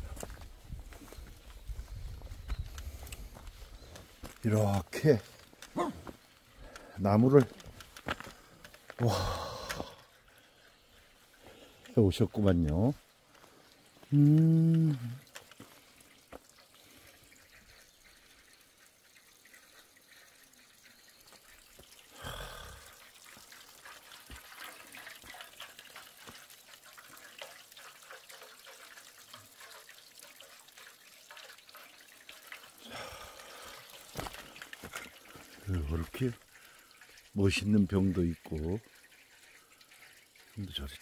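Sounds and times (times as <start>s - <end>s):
water trickling and dripping: 0.0s - 41.0s.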